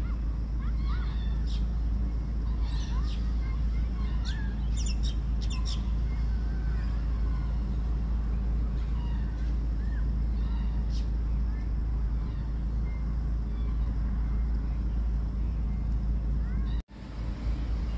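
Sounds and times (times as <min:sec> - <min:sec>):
steady low rumble: 0:00.0 - 0:17.9
wild birds chirping: 0:00.0 - 0:17.9.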